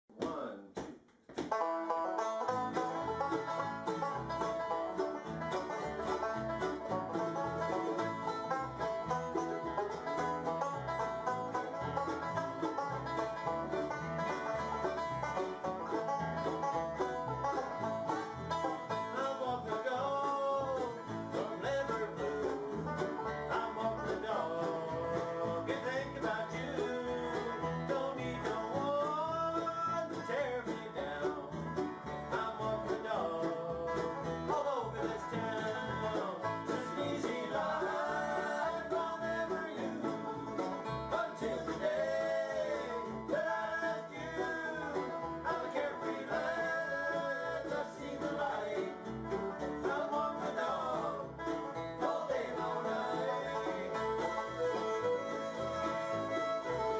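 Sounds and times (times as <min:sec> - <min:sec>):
banjo: 0:01.3 - 0:56.9
acoustic guitar: 0:01.4 - 0:56.9
mandolin: 0:01.4 - 0:56.9
upright bass: 0:01.4 - 0:56.9
fiddle: 0:01.5 - 0:56.9.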